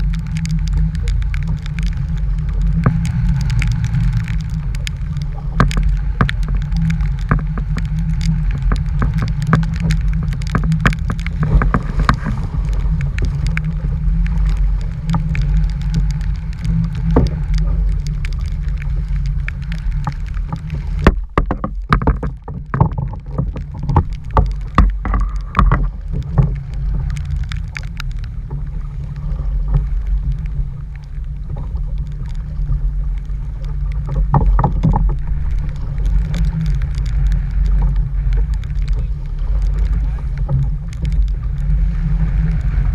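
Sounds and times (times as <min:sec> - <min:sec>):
sharp ticks and knocks: 0:00.0 - 0:41.7
wind buffeting microphone: 0:00.0 - 0:42.9.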